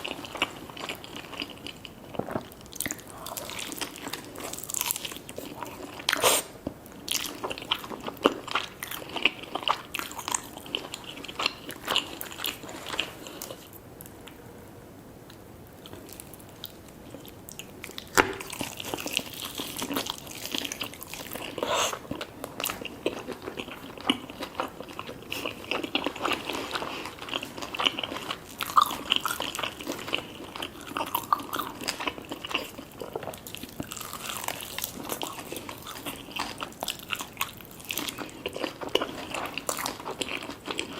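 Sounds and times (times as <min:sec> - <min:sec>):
crunchy chewing of fried food: 0:00.0 - 0:14.4, 0:15.3 - 0:40.9.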